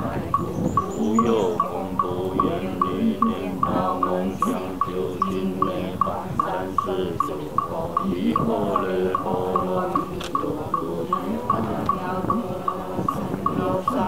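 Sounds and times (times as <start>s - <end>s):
voices chanting in unison: 0.0s - 14.0s.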